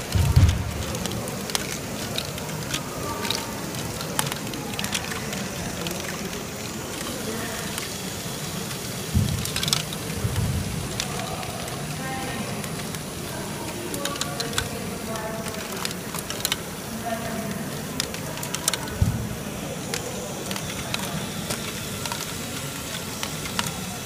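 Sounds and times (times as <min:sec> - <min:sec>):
mechanical hum: 0:00.0 - 0:24.0
plastic balls clattering: 0:00.0 - 0:24.0.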